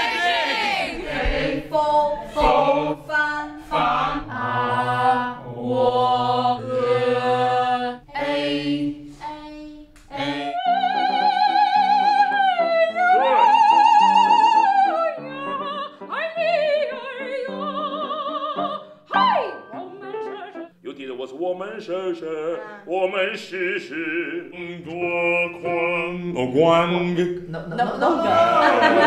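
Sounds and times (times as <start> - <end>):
operatic soprano singing: 0.5 - 20.8, 21.4 - 29.0.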